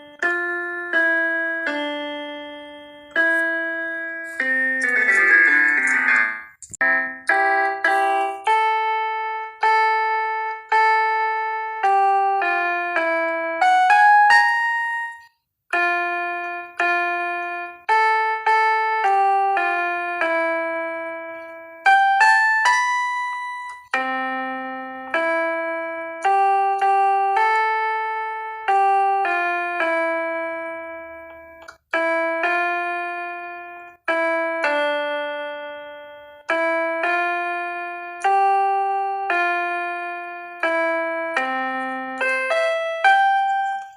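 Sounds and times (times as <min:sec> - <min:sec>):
slow piano melody: 0:00.0 - 0:43.9.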